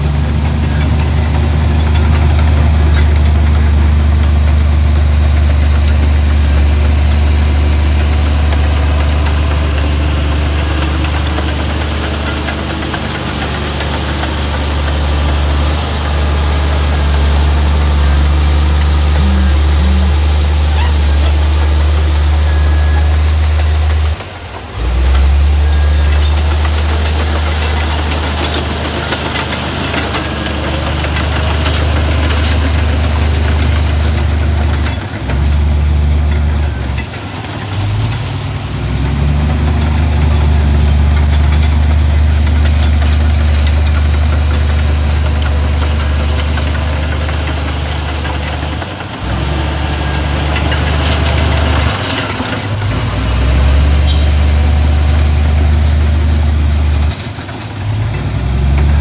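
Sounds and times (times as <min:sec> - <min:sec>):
bulldozer diesel engine clattering: 0:00.0 - 0:59.0.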